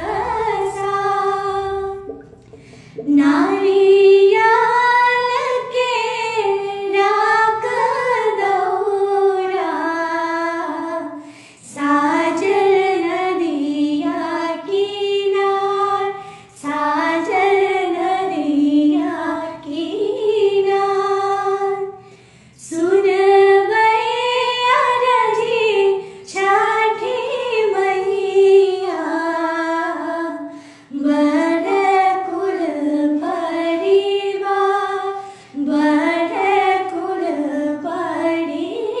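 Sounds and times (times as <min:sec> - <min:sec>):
women singing unaccompanied: 0:00.0 - 0:39.0.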